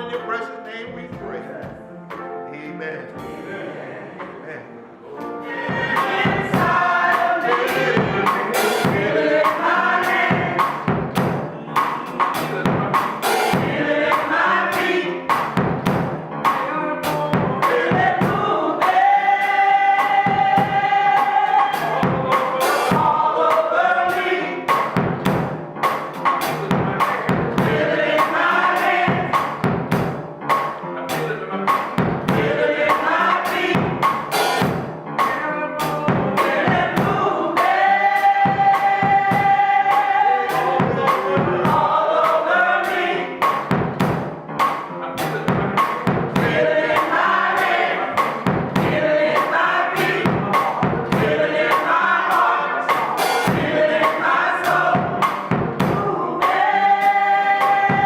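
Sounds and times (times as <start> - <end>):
drum kit beat: 0.0 - 4.4, 5.2 - 58.0
gospel singing: 0.0 - 30.3, 31.1 - 44.3, 45.2 - 58.0.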